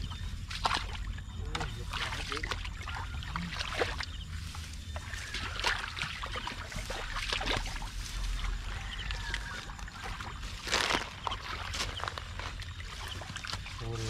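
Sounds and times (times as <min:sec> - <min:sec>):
steady low rumble: 0:00.0 - 0:14.0
water splashing and sloshing: 0:00.0 - 0:14.0.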